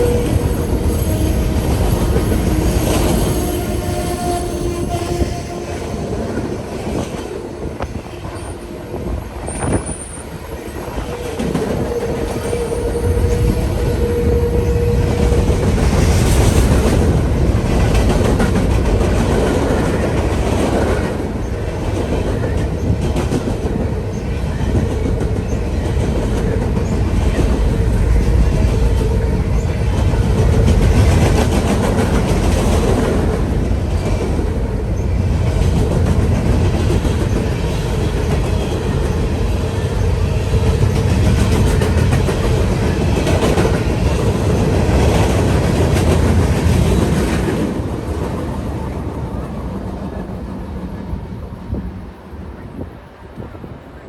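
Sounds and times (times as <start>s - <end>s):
train rumbling: 0.0s - 54.0s
wheels clacking on rails: 0.0s - 54.0s.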